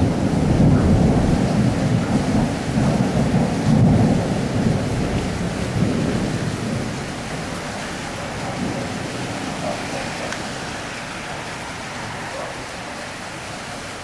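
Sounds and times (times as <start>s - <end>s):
thunder rumbling: 0.0s - 12.4s
rain hissing: 0.0s - 14.0s.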